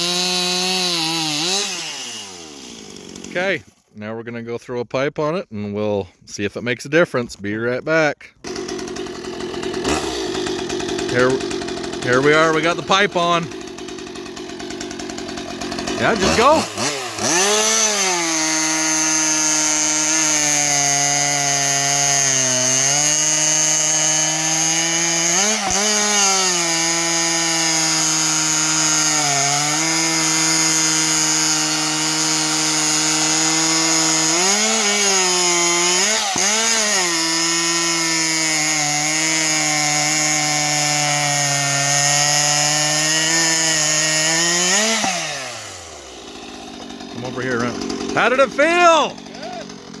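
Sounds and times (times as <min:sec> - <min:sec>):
chainsaw cutting wood: 0:00.0 - 0:03.9, 0:08.4 - 0:50.0.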